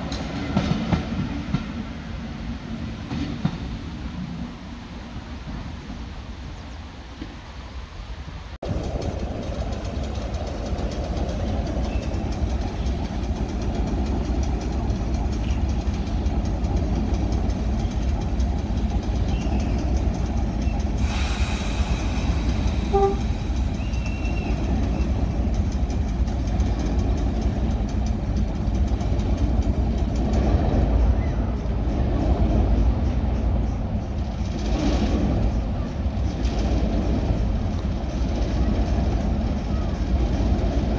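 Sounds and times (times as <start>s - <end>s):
diesel locomotive engine idling: 0.0s - 40.9s.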